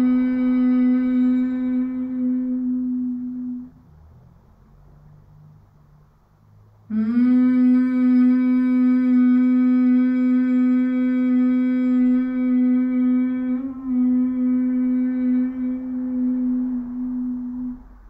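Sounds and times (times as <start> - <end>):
woman humming: 0.0 - 3.8, 6.9 - 18.0.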